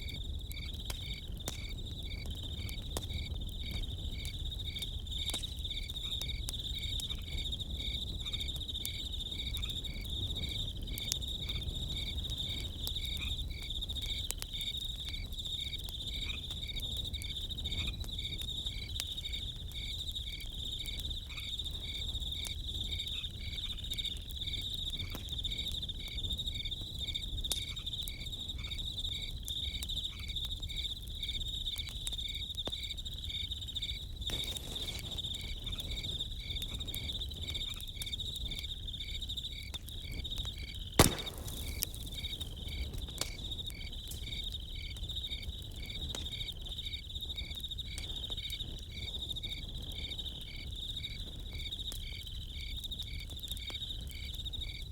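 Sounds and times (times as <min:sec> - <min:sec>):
campfire crackling: 0:00.0 - 0:54.9
crickets chirping: 0:00.0 - 0:54.9.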